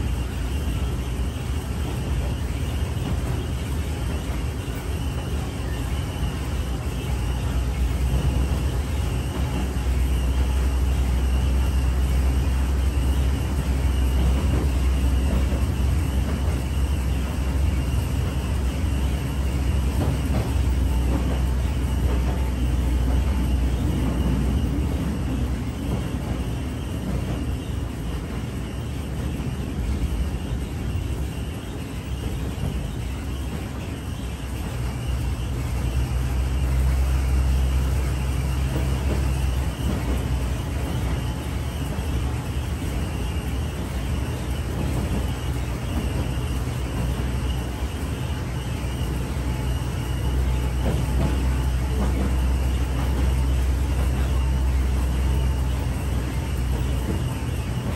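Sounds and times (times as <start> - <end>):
rail cart engine drone: 0.0 - 57.9
wheels rumbling on rails: 0.0 - 57.9.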